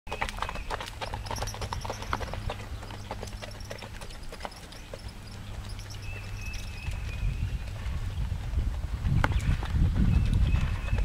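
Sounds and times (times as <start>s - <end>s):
horse hooves on gravel: 0.1s - 11.0s.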